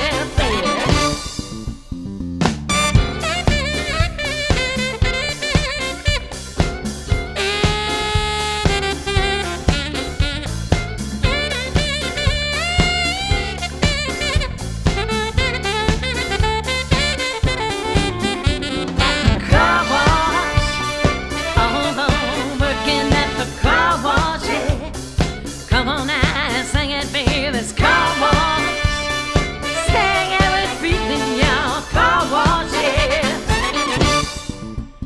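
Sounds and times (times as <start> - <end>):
live funk band playing: 0.0 - 35.0.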